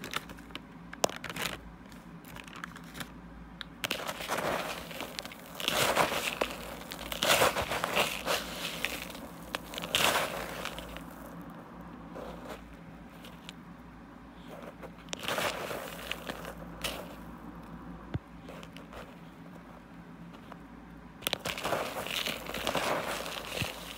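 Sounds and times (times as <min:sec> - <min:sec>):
mothballs crunching under fingers: 0:00.0 - 0:13.8, 0:14.4 - 0:19.7, 0:21.2 - 0:23.9.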